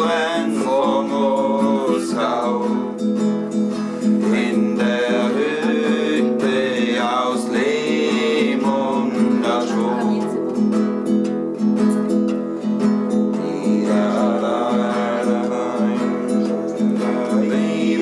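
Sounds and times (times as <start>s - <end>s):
man singing: 0.0s - 10.4s, 13.1s - 18.0s
classical guitar strummed and picked: 0.0s - 18.0s.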